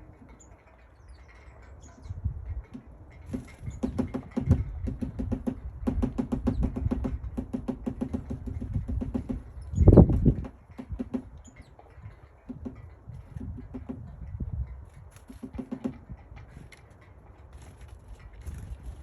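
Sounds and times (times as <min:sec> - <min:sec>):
woodpecker tapping on wood: 0:01.8 - 0:19.0.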